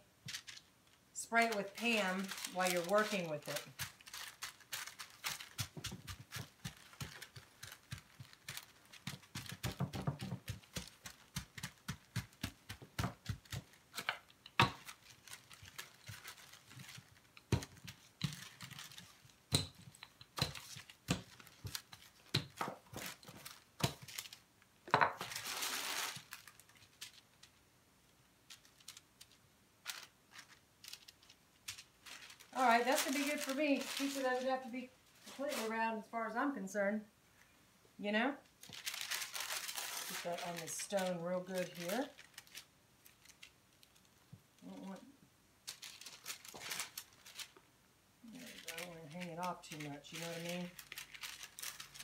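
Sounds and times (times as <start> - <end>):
parchment paper crinkling: 0.1 - 36.1, 38.4 - 52.0.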